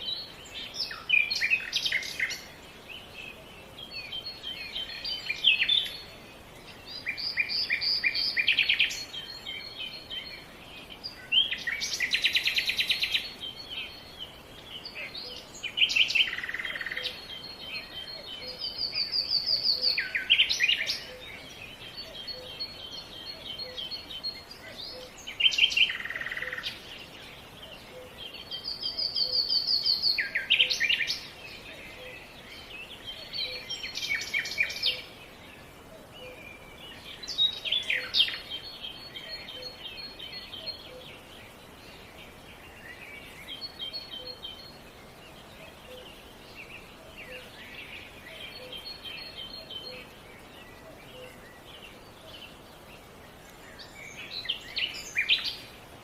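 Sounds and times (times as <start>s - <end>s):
songbirds trilling and chirping: 0.0s - 56.0s
steady background hiss: 0.0s - 56.0s.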